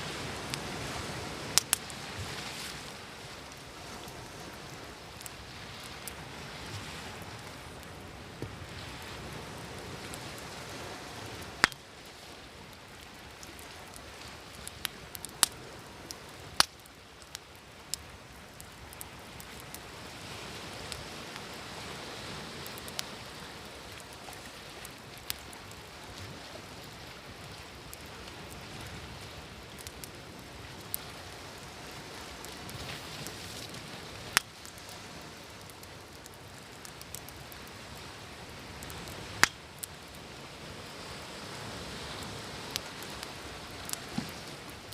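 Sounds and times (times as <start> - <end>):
waves washing: 0.0 - 16.8, 17.7 - 44.9
fire popping: 0.0 - 44.9
wood fire crackling: 0.0 - 44.9.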